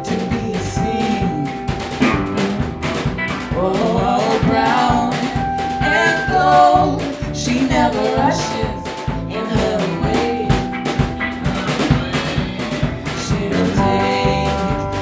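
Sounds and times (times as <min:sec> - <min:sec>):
person singing: 0:00.0 - 0:01.8, 0:03.4 - 0:15.0
live band playing: 0:00.0 - 0:15.0.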